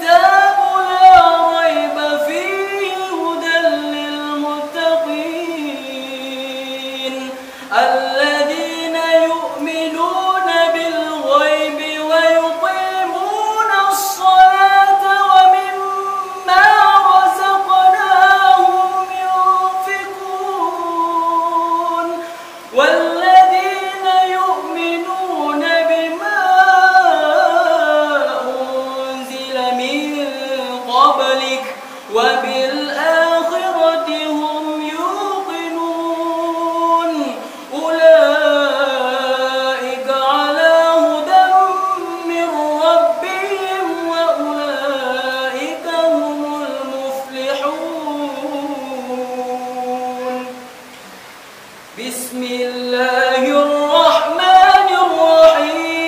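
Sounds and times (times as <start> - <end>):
man chanting melodic recitation: 0.0 - 50.8, 52.0 - 56.0.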